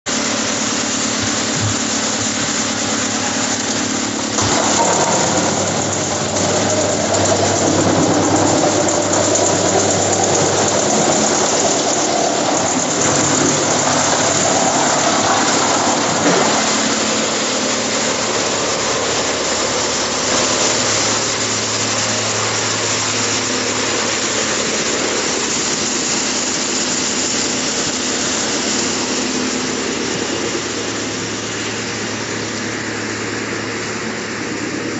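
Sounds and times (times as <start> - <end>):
wood chipper chipping logs: 0.1 - 34.9.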